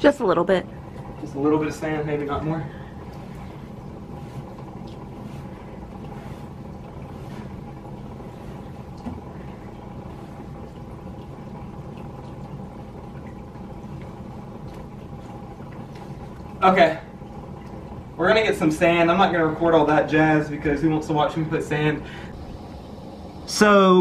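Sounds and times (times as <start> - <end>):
background hum: 0.0 - 24.0.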